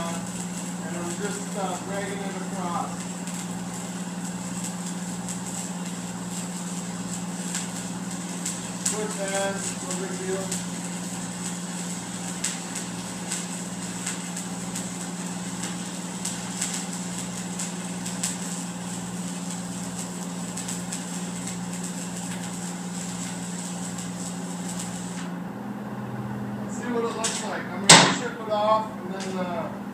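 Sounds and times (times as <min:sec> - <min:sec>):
welding arc crackling and hissing: 0:00.0 - 0:25.4
welding machine hum: 0:00.0 - 0:29.9.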